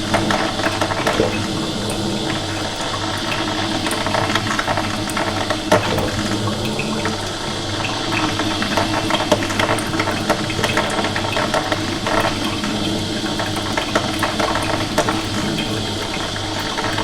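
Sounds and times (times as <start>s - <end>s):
coffee machine humming: 0.0s - 17.0s
water gurgling: 0.0s - 17.0s.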